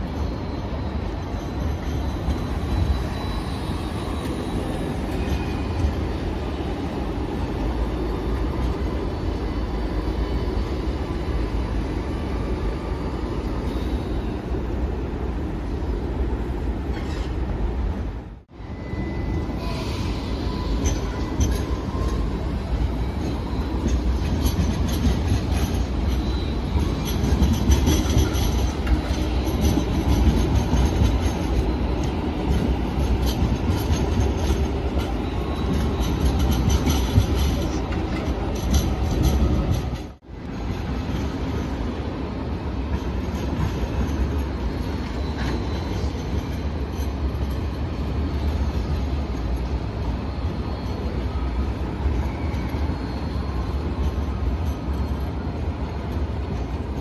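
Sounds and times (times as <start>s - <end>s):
faint high wheel squeal: 0.0s - 15.1s, 16.8s - 17.6s, 18.5s - 40.1s, 40.7s - 57.0s
tram rumbling on rails: 0.0s - 57.0s.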